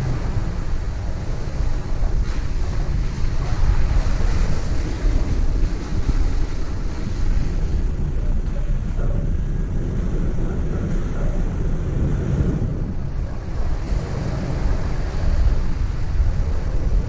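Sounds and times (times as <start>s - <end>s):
open water rushing: 0.0s - 17.0s
wind buffeting microphone: 0.0s - 17.0s.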